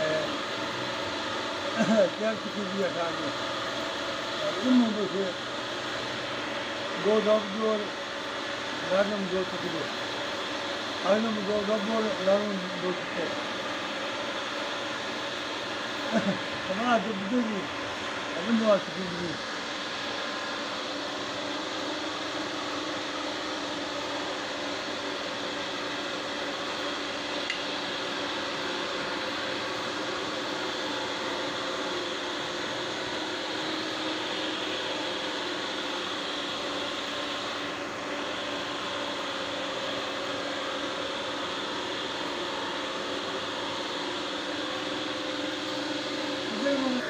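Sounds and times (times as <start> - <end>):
machine-like hum with hiss: 0.0 - 47.0.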